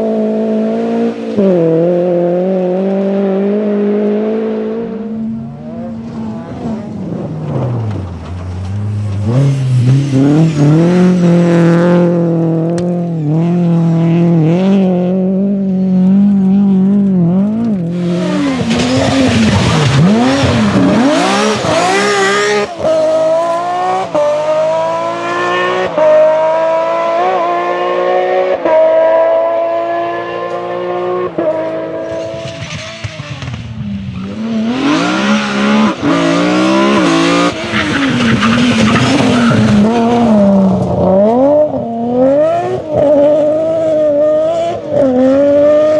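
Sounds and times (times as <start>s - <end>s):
rally car engine at high revs: 0.0s - 45.9s
rush of tyre noise: 0.0s - 45.9s.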